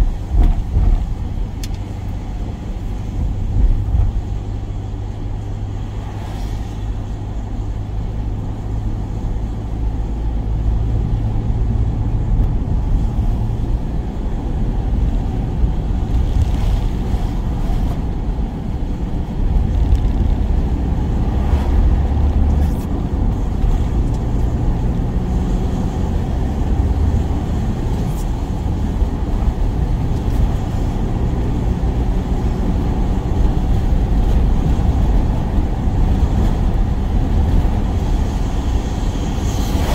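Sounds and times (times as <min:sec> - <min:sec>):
road noise: 0:00.0 - 0:39.9
van engine: 0:00.0 - 0:39.9.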